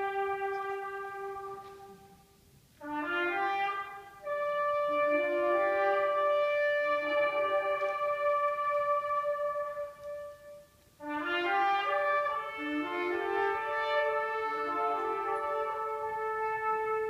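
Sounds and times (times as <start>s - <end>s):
wind band playing held chords: 0.0s - 17.0s.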